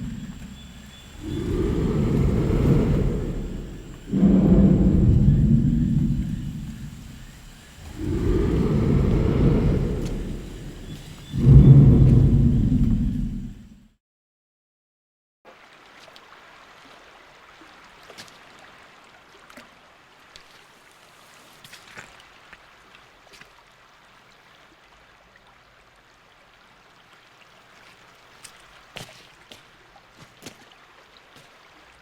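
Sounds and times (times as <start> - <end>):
faint trickling water: 0.0 - 13.8, 15.5 - 32.0.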